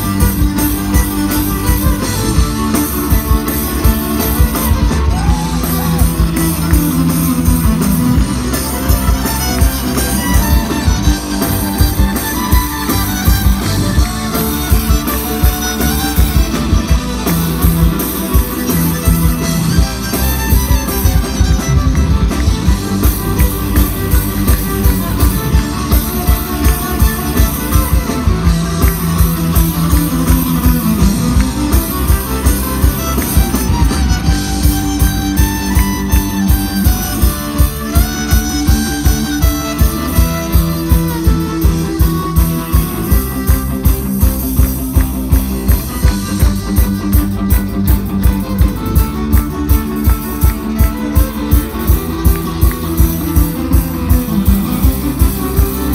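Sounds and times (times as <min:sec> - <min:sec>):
live folk-punk band playing: 0:00.0 - 0:55.9.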